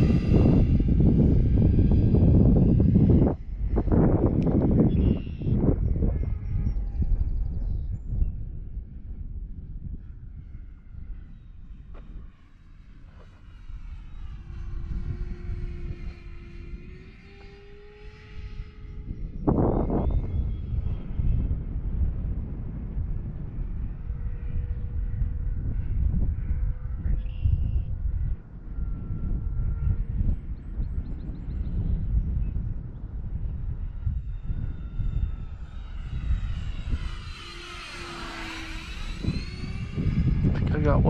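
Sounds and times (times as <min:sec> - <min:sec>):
model jet engine whine: 0:00.0 - 0:41.0
wind rumble on microphone: 0:00.0 - 0:41.0.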